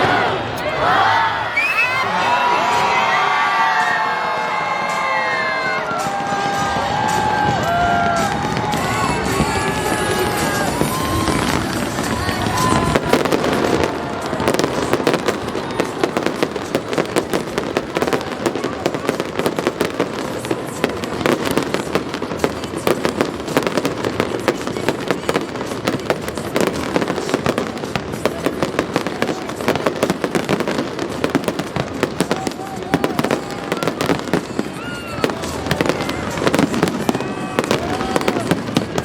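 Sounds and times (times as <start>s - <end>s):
fireworks bangs and crackles: 1.6s - 39.0s.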